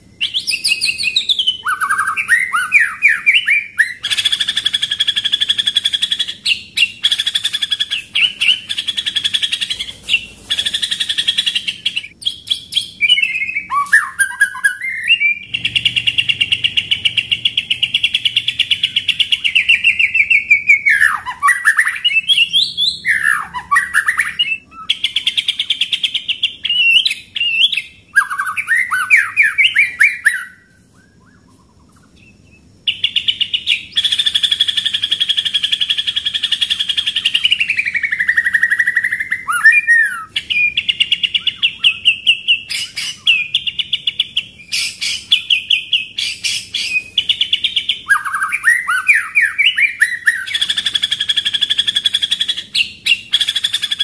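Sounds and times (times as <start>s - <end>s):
bird singing rapid trills: 0.0s - 54.0s.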